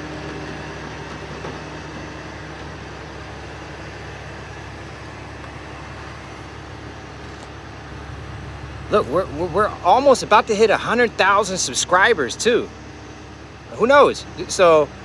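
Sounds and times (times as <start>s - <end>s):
tow truck engine running: 0.0s - 15.0s.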